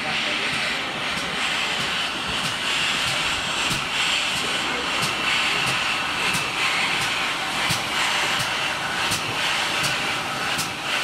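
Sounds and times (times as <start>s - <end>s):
steam hissing: 0.0s - 11.0s
train wheels clicking: 0.0s - 11.0s.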